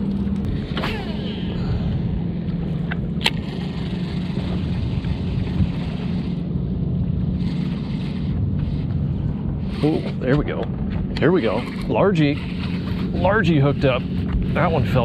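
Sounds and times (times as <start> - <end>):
boat motor humming: 0.0 - 15.0
wind on the microphone: 0.0 - 15.0.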